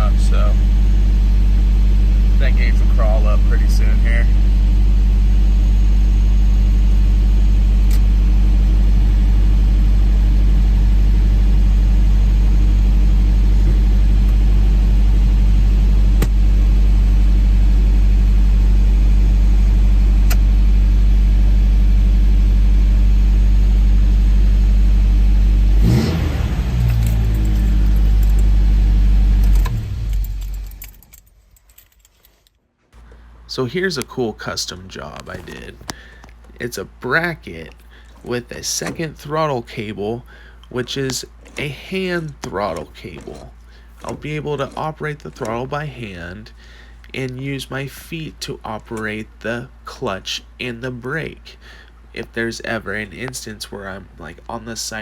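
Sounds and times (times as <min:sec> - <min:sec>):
car engine idling: 0:00.0 - 0:30.9, 0:33.0 - 0:50.0.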